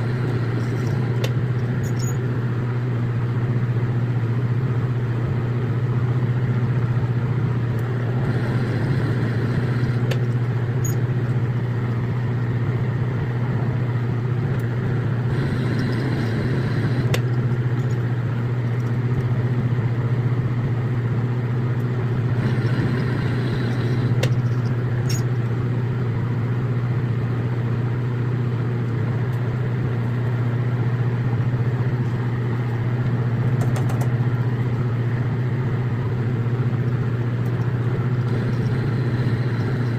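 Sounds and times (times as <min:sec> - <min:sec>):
lathe motor humming: 0:00.0 - 0:03.6, 0:06.9 - 0:21.4, 0:22.0 - 0:26.5, 0:30.0 - 0:39.9.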